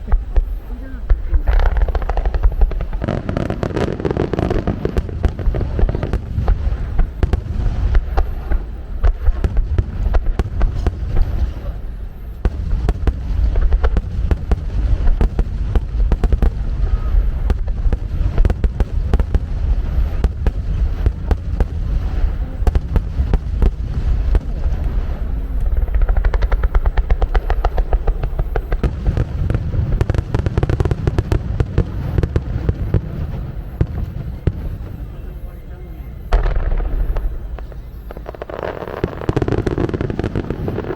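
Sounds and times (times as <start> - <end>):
fireworks barrage booming: 0.0 - 40.9.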